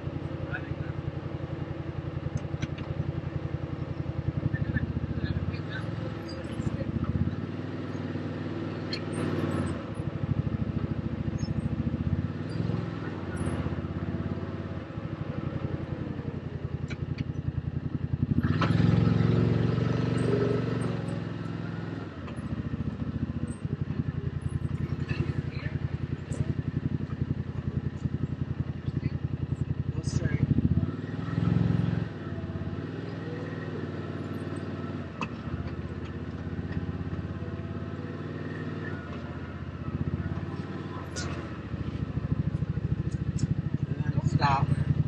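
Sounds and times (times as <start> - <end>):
utility vehicle engine running: 0.0 - 45.0.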